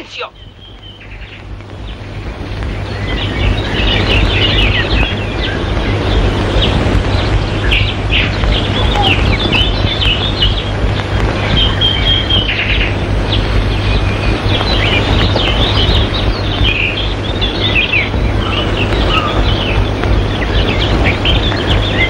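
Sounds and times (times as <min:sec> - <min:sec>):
small birds chirping chorus: 0:00.0 - 0:22.0
steady low hum: 0:00.0 - 0:22.0.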